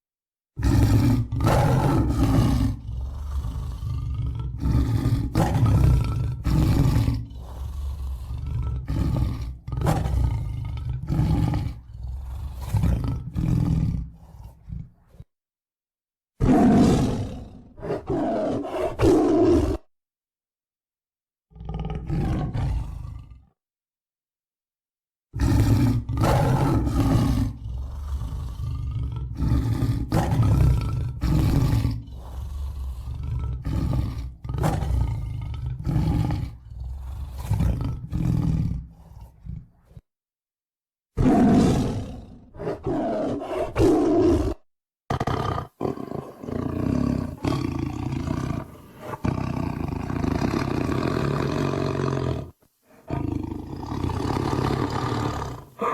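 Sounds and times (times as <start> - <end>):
tiger growling and roaring: 0.6 - 15.3, 16.4 - 19.9, 21.5 - 23.6, 25.4 - 40.1, 41.2 - 55.9.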